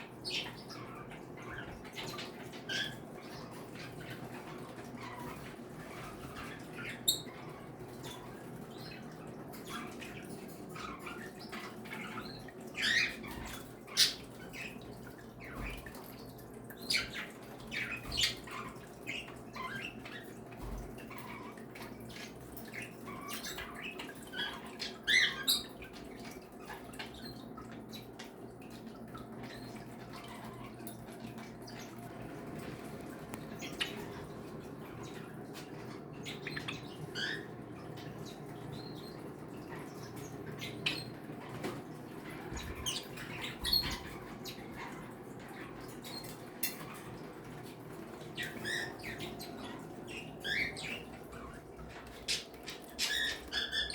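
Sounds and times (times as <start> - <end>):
birds chirping and calling: 0.0 - 53.9
low background hum: 0.0 - 53.9.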